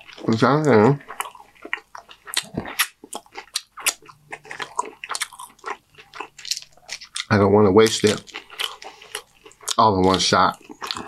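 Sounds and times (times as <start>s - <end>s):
wet mouth sounds: 0.0s - 7.3s, 8.0s - 11.0s
chewing crunchy chips: 0.0s - 11.0s.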